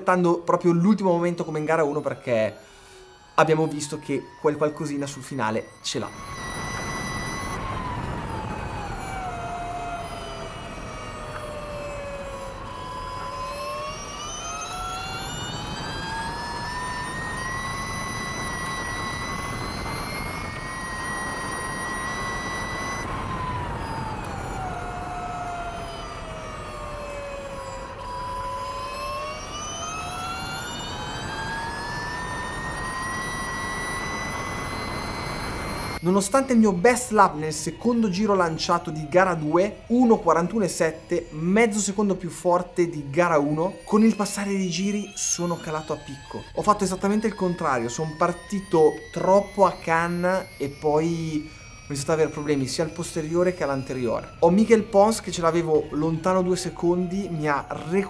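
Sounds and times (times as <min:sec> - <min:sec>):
electric motorcycle motor whining: 0:00.0 - 0:58.0.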